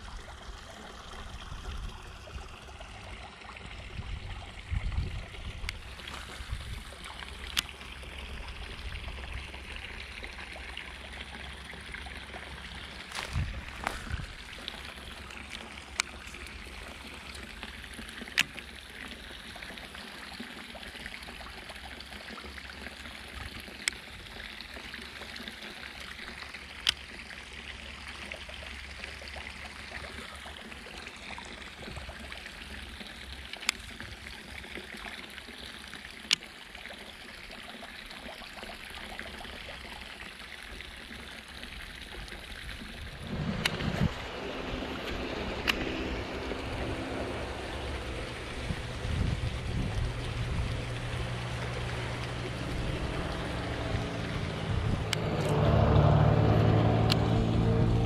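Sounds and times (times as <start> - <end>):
water rushing in canal: 0.0 - 58.0.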